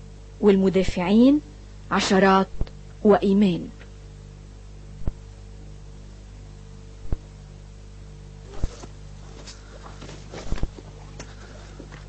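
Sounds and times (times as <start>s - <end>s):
electrical tape hum: 0.0s - 12.0s.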